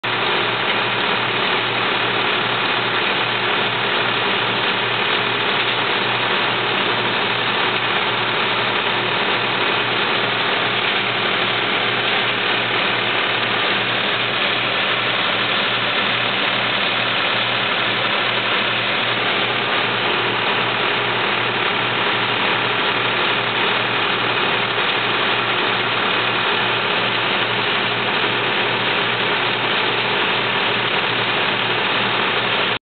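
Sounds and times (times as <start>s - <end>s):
conveyor rattle: 0.0s - 32.8s
harvester engine drone: 0.0s - 32.8s.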